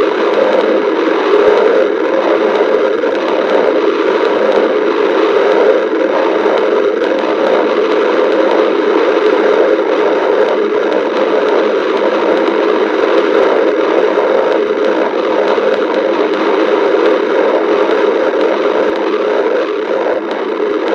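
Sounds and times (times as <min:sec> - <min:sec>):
stomach growling: 0:00.0 - 0:20.9.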